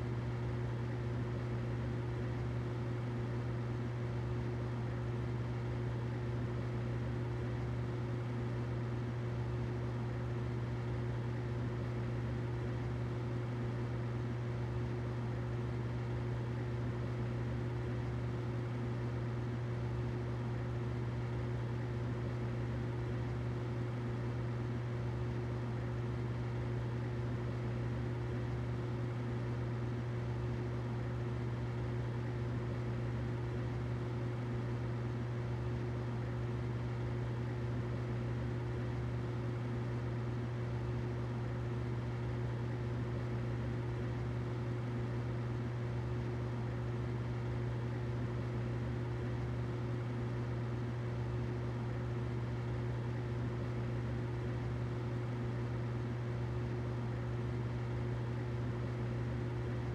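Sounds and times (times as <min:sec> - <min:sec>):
humidifier humming and hissing: 0:00.0 - 0:59.9.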